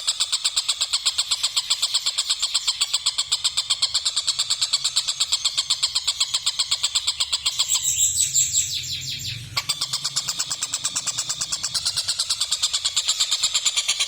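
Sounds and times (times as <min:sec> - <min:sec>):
gliding bird call: 0:00.0 - 0:14.0.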